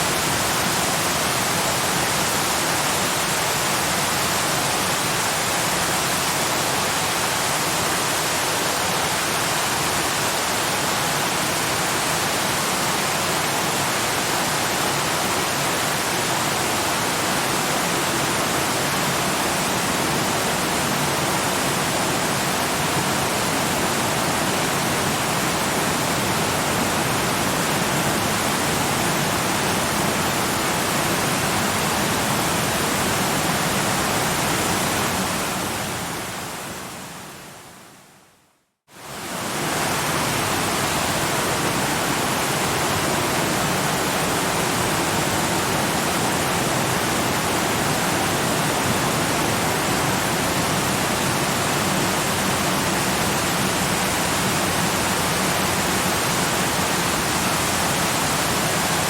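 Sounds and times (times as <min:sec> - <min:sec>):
waterfall rushing: 0:00.0 - 0:37.6, 0:38.9 - 0:59.0.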